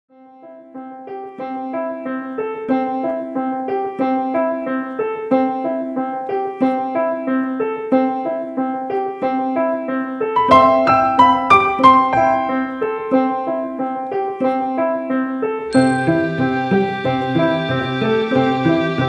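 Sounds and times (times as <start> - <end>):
solo piano music: 0.1 - 19.0.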